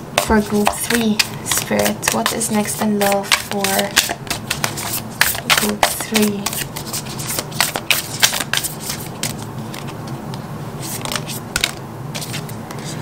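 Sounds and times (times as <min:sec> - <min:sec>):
cards being shuffled by hand: 0:00.2 - 0:13.0.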